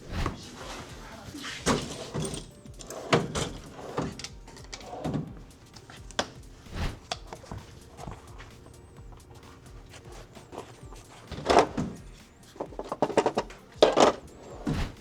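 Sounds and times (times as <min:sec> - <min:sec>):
knocks and clunks on bike wheel: 0:00.0 - 0:15.0.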